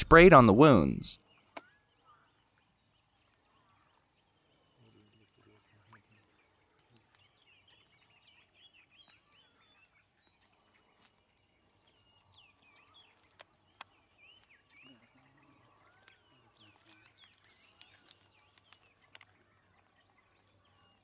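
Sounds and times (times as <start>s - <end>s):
faint bird chirps: 1.2s - 21.0s.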